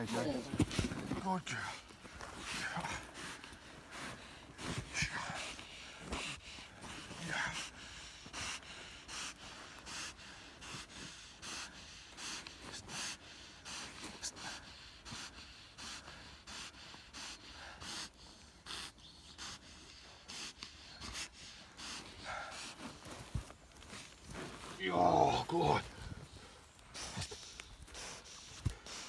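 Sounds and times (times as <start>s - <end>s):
dog breathing hard through nose: 1.7s - 24.8s, 25.6s - 29.0s.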